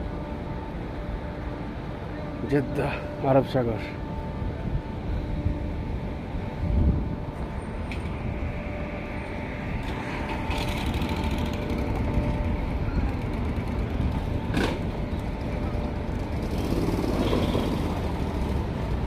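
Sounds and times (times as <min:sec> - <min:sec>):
moving vehicle road and engine noise: 0:00.0 - 0:19.0.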